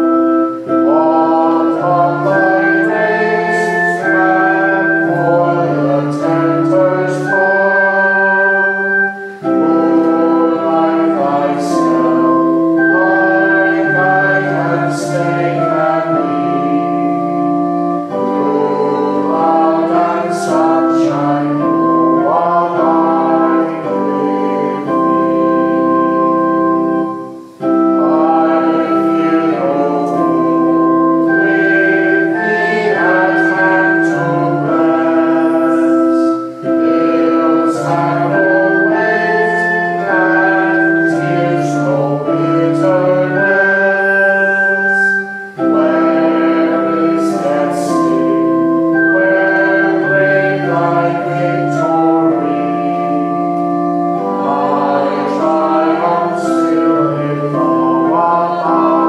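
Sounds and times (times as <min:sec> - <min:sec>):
congregation singing a hymn: 0:00.0 - 0:59.0
keyboard accompaniment: 0:00.0 - 0:59.0.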